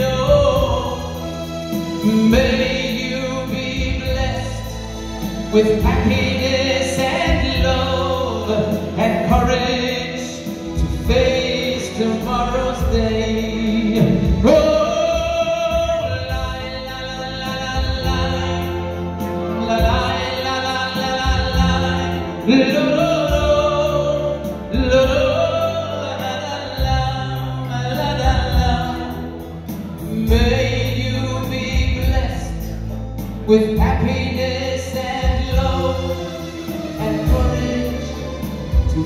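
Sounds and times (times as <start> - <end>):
instrumental backing with bass: 0.0 - 39.0
man singing through a pa: 0.0 - 39.0.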